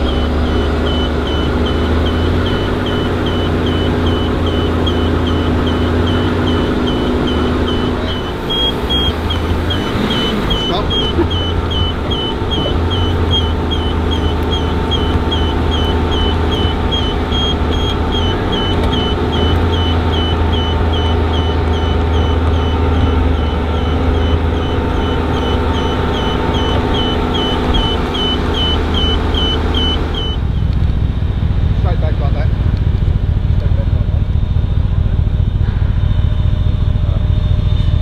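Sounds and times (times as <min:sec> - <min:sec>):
short high electronic beeps: 0:00.0 - 0:30.6
vehicle engine idling: 0:00.0 - 0:38.0.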